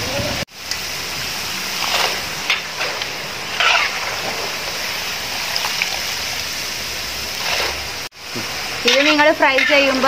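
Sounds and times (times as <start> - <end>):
fries sizzling in hot oil: 0.0 - 10.0
sharp oil crackles: 0.5 - 10.0.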